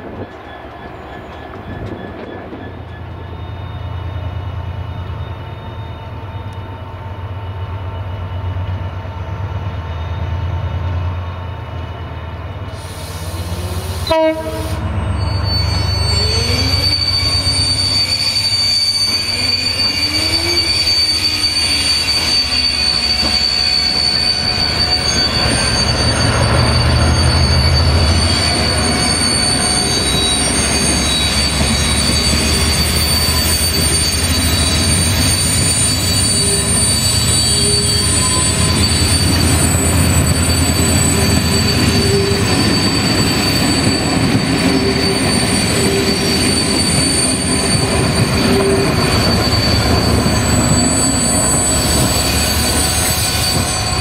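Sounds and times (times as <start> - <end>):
diesel locomotive engine drone: 0.0 - 54.0
train wheel squeal: 0.0 - 54.0.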